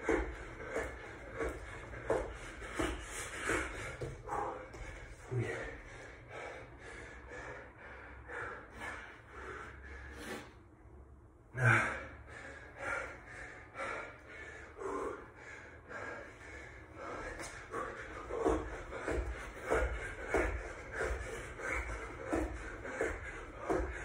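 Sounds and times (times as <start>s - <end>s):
man panting hard: 0.0s - 10.8s, 11.5s - 24.0s.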